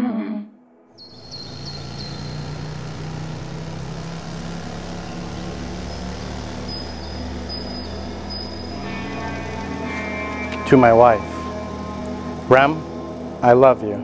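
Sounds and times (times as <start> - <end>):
engine rumbling: 1.0 - 14.0.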